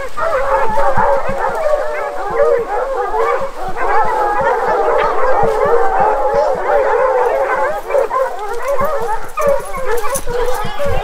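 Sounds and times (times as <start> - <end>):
dogs baying and howling: 0.0 - 11.0.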